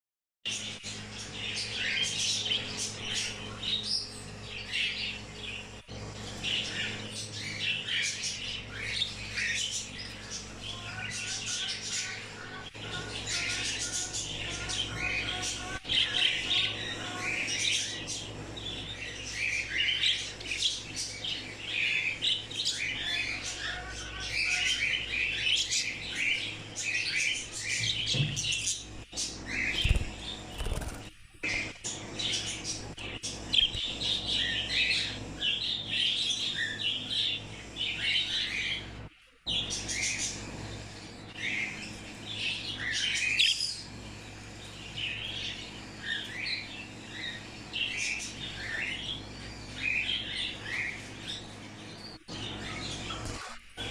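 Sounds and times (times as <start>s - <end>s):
small birds chirping: 0.4s - 53.9s
steady low hum: 0.5s - 53.9s.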